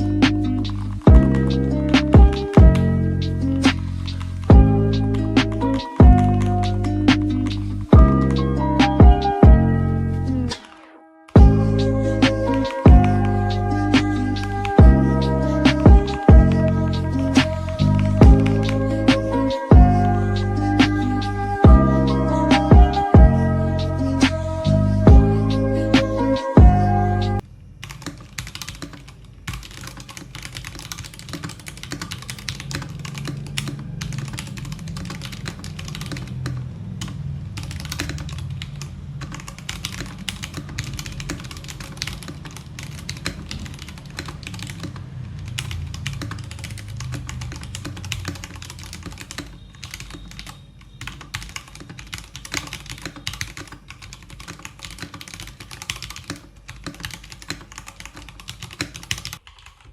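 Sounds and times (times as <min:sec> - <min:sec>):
mechanical keyboard typing: 0:00.0 - 0:09.7, 0:10.4 - 0:24.5, 0:27.4 - 0:59.9.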